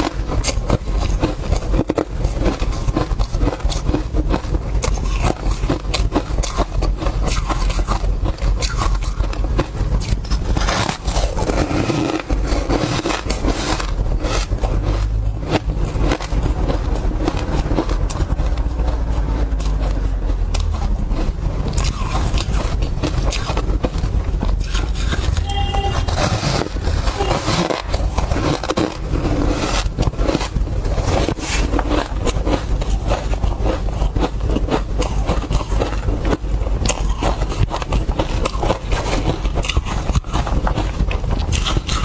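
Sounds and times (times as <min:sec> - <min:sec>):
biting and chewing ice: 0:00.0 - 0:42.0.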